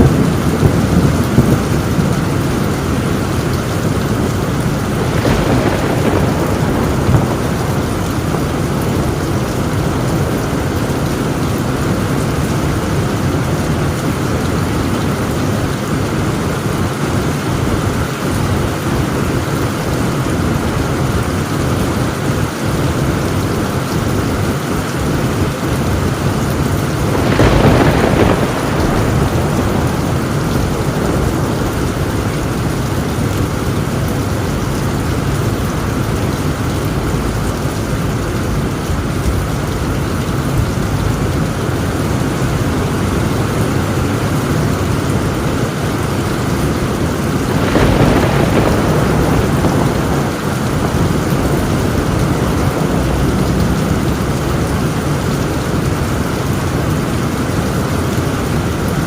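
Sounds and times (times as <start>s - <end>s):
thunder: 0.0s - 22.6s, 23.2s - 59.0s
heavy rain on a tin roof: 0.0s - 59.0s.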